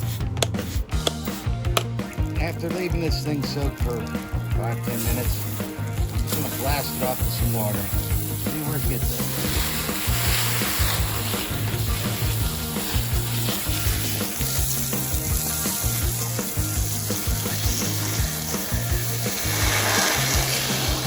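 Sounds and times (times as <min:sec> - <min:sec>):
water jet spraying: 0:00.0 - 0:21.0.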